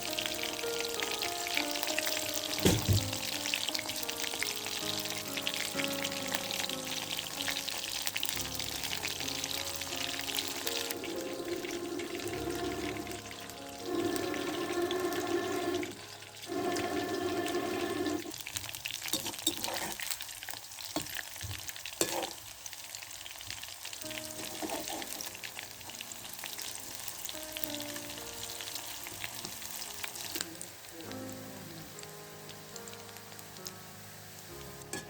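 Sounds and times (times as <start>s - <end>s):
background music: 0.0s - 18.4s, 24.0s - 35.0s
food sizzling in hot oil: 0.0s - 35.0s.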